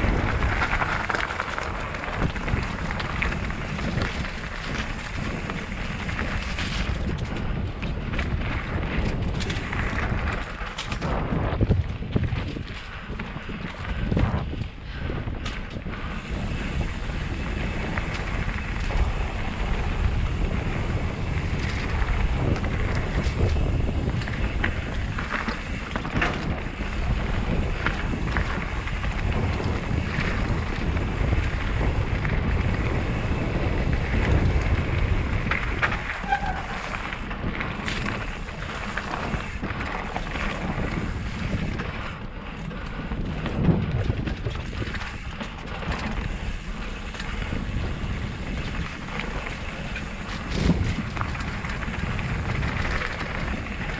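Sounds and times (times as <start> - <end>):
bike clicks and knocks: 0.0 - 53.9
bike tyres rumbling on dirt: 0.0 - 53.9
wind rushing over microphone: 0.0 - 53.9.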